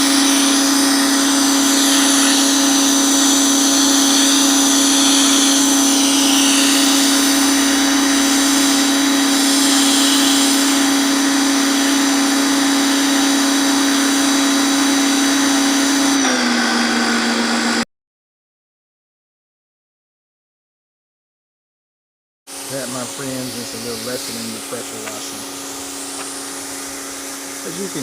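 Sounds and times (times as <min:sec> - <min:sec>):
pressure washer running: 0:00.0 - 0:17.8, 0:22.5 - 0:28.0.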